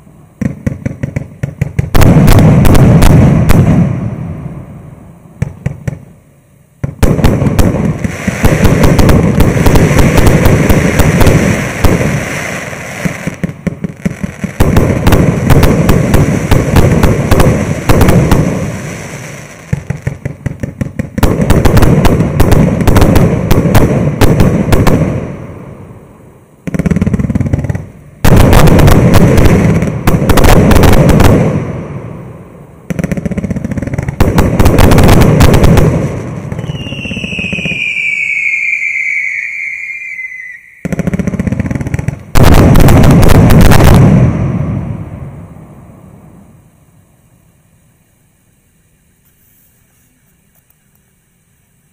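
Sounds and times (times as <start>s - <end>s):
fireworks firing in volleys: 0.0s - 51.1s.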